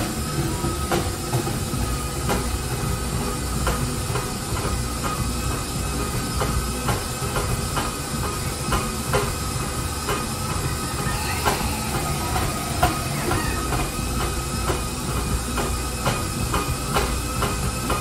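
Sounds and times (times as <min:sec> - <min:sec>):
liquid nitrogen hissing: 0:00.0 - 0:18.0
stand mixer running: 0:00.0 - 0:18.0.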